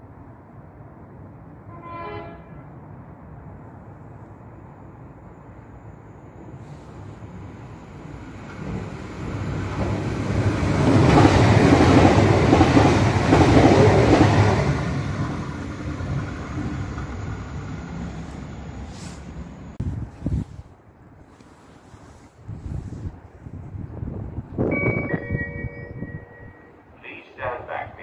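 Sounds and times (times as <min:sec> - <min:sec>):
diesel train passing: 0:00.0 - 0:20.0, 0:23.4 - 0:28.0.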